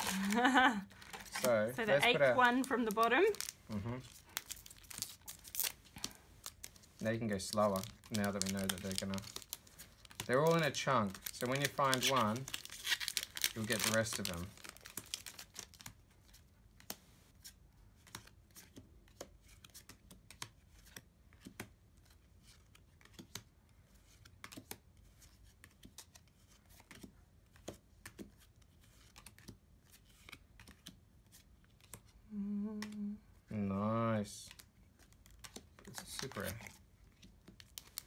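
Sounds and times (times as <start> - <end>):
trading cards clicking and flicking: 0.0 - 21.7, 22.4 - 33.2, 34.4 - 38.0.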